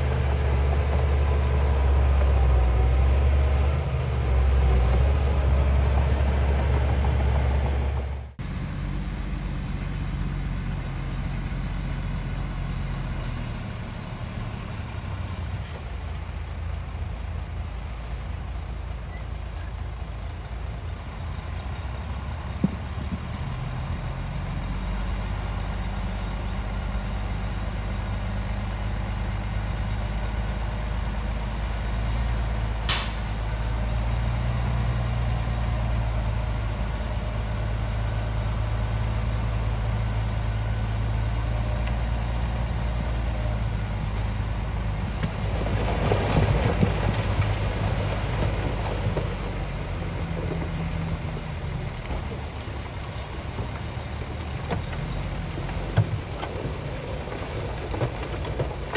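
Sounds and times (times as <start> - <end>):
heavy diesel engine droning: 0.0 - 58.9.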